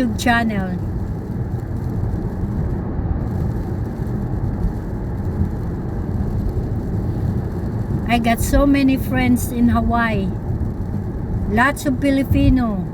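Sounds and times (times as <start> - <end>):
car cabin road and engine noise: 0.0 - 12.9.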